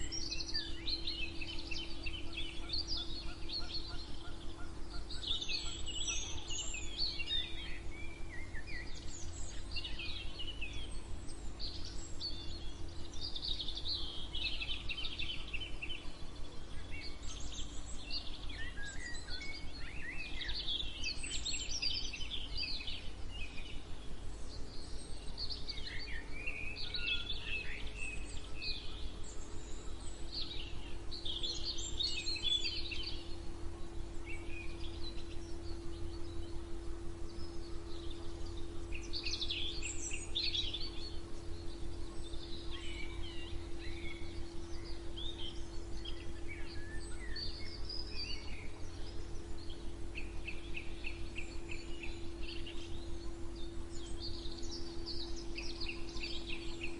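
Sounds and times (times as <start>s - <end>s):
songbirds singing: 0.0s - 56.9s
steady low hum and rumble: 0.0s - 56.9s.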